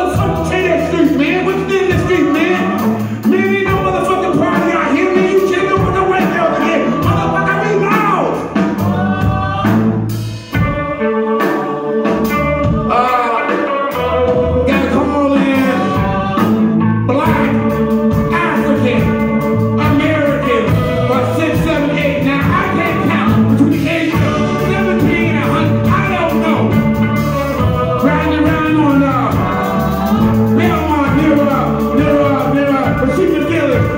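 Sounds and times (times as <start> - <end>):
man singing into microphone: 0.0 - 9.5, 11.3 - 26.9, 27.5 - 33.9
backing singers: 0.0 - 33.9
live band playing: 0.0 - 33.9.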